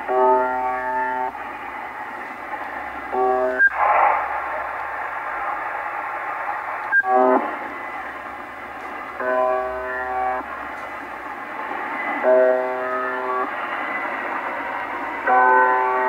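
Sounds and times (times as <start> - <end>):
shortwave static hissing: 0.0 - 16.0.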